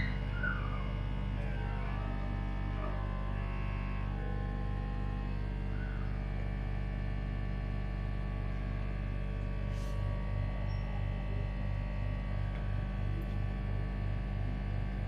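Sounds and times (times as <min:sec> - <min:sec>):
electrical hum: 0:00.0 - 0:15.0
low rhythmic pulsing: 0:00.0 - 0:15.0.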